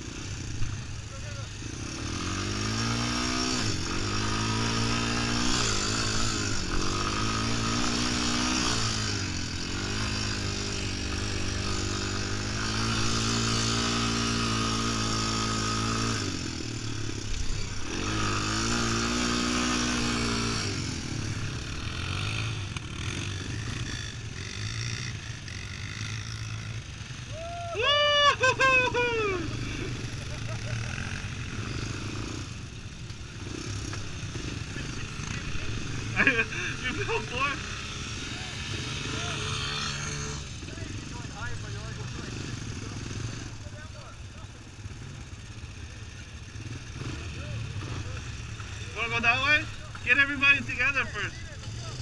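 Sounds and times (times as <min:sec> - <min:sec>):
quad bike engine revving: 0:00.0 - 0:52.0.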